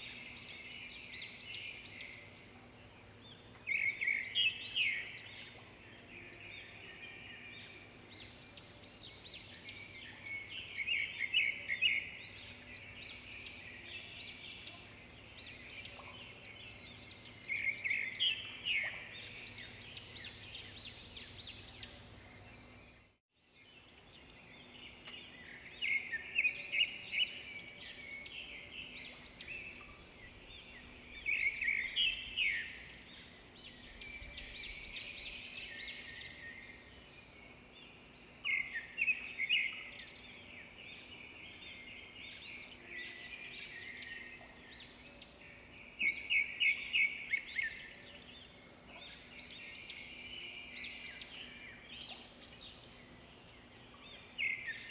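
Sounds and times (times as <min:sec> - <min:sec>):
birds twittering: 0:00.0 - 0:54.9.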